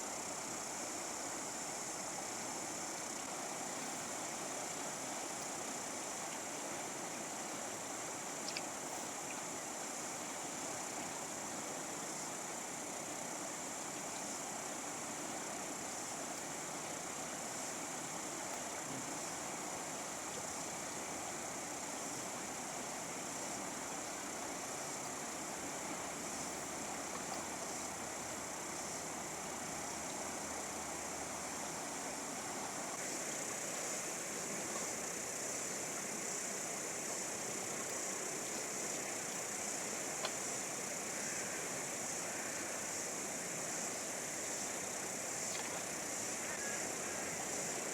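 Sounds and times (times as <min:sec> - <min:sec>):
river water rushing: 0:00.1 - 0:47.9.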